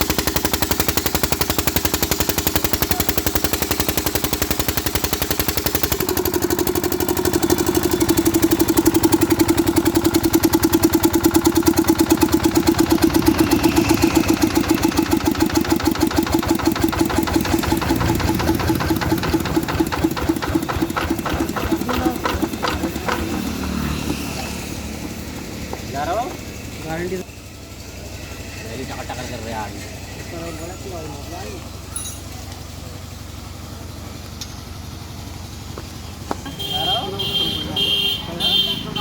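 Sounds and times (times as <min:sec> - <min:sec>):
water-cooled engine running: 0:00.0 - 0:39.0.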